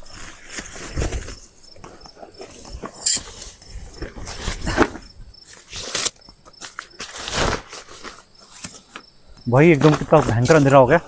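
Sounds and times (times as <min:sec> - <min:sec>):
camping gear rustling and knocking: 0:00.0 - 0:11.0
crickets chirping: 0:00.0 - 0:11.0.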